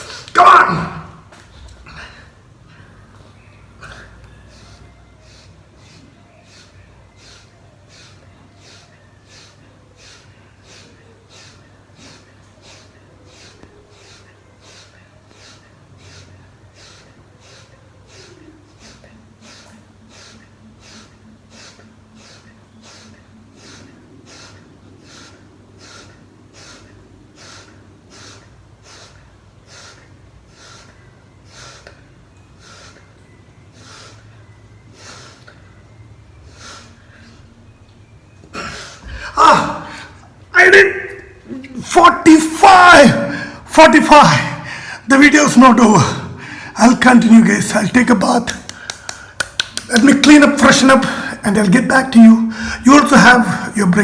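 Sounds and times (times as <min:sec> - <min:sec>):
man breathing hard: 0:01.1 - 0:37.7, 0:38.5 - 0:45.2, 0:45.8 - 0:51.6, 0:52.4 - 0:53.8.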